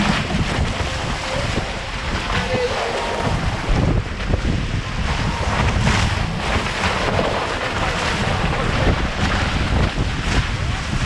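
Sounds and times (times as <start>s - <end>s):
water rushing off boat hull: 0.0s - 11.0s
wind buffeting microphone: 0.0s - 11.0s.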